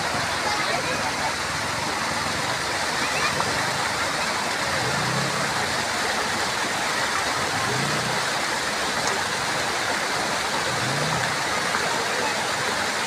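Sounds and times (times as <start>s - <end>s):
water rushing over weir: 0.0s - 13.0s.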